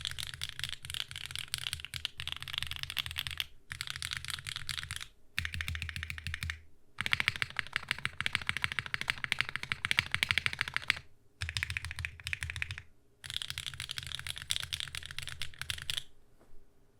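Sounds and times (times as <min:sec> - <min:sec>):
typing on mechanical keyboard: 0:00.0 - 0:16.1.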